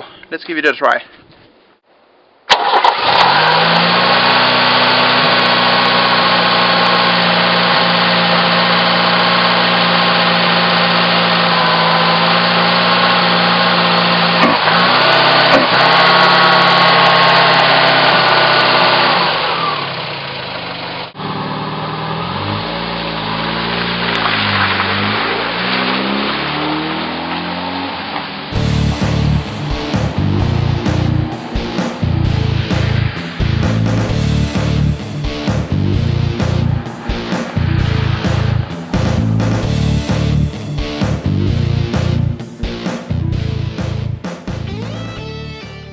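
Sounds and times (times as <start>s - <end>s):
car engine running: 2.6s - 24.6s, 28.5s - 45.9s.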